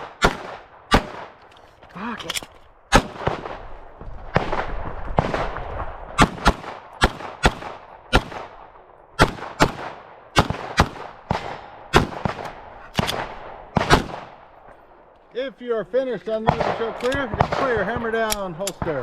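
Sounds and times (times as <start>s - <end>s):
pistol shots echoing: 0.0s - 1.4s, 2.9s - 3.7s, 4.3s - 14.8s, 16.3s - 19.0s.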